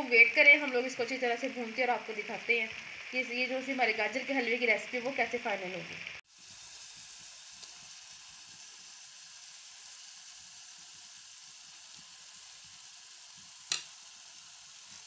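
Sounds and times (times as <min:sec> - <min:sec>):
carrots sizzling in a pan: 0:00.0 - 0:15.0.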